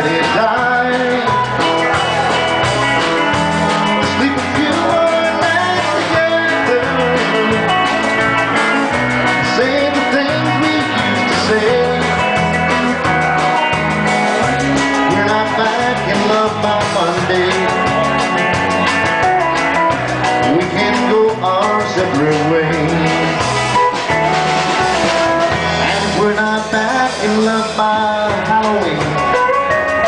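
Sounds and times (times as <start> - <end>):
live band instrumental: 0.0 - 30.0.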